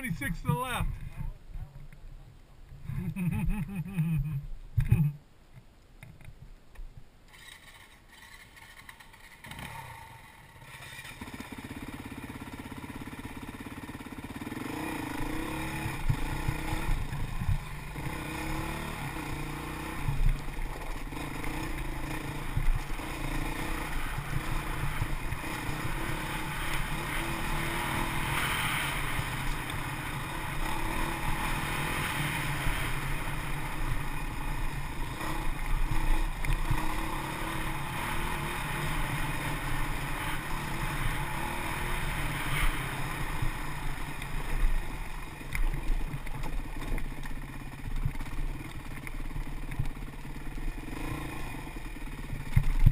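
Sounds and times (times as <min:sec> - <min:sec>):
dirt bike engine revving: 0:07.3 - 0:52.9.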